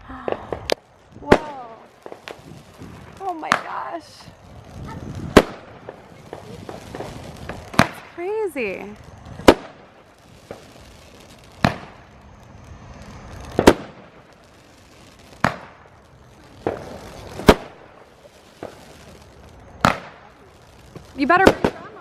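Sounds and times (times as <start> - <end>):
fireworks bangs: 0.0 - 22.0
faint firework pops: 0.2 - 22.0.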